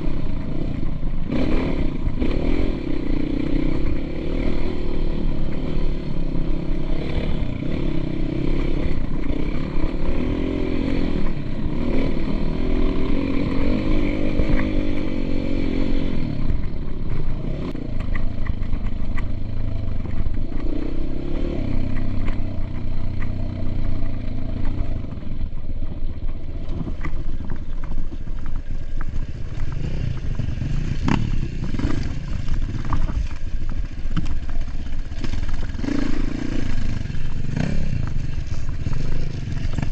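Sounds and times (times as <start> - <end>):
dirt bike engine revving: 0.0 - 18.0, 19.7 - 25.2, 29.2 - 33.2, 34.4 - 39.9.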